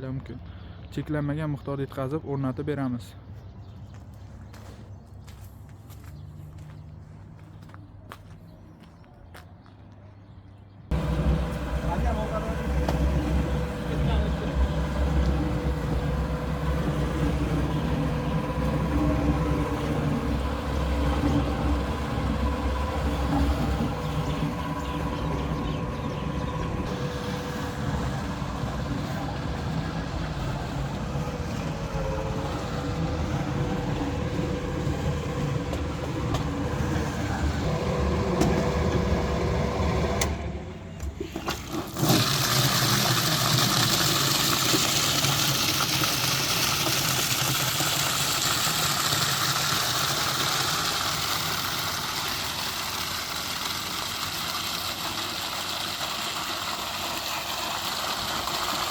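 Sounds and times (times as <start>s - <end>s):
engine rumbling: 10.8s - 58.9s.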